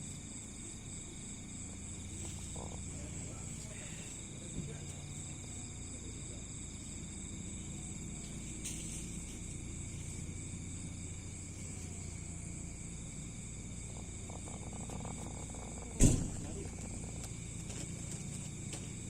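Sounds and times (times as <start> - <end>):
insects trilling: 0.0 - 19.0
low steady rumble: 0.0 - 19.0.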